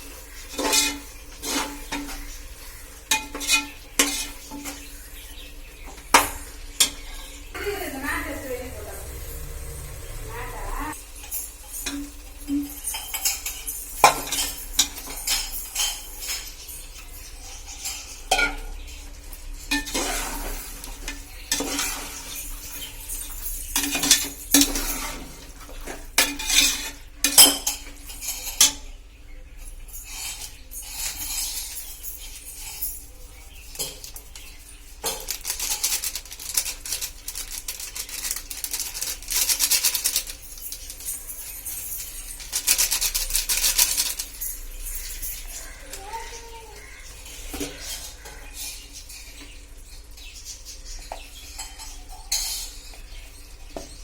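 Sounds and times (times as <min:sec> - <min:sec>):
light sizzle of frying: 0:00.0 - 0:54.0.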